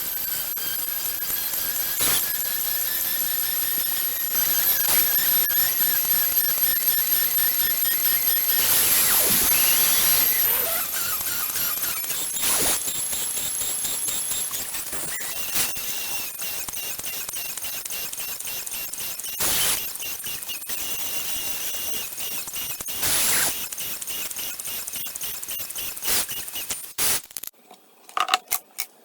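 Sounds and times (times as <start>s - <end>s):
stepper motors whining: 0.0s - 27.5s.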